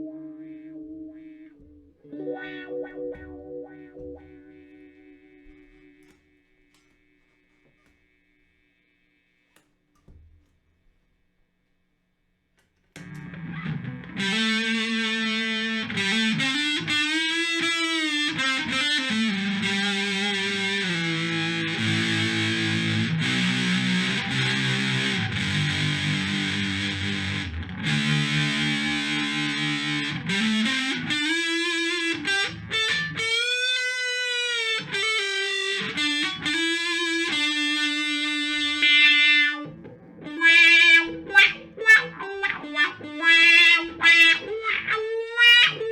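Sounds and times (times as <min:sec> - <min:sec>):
wavering distorted electric guitar: 0:00.0 - 0:11.1, 0:12.6 - 0:45.9.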